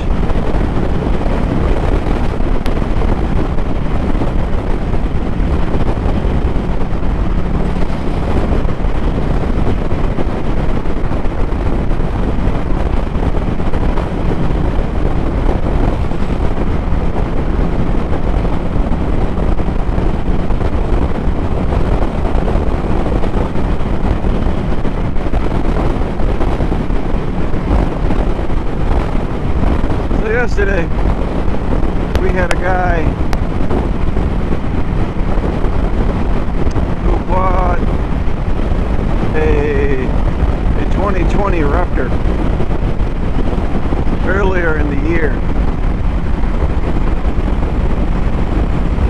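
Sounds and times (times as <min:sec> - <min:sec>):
motorcycle engine running: 0:00.0 - 0:49.0
wind buffeting microphone: 0:00.0 - 0:49.0.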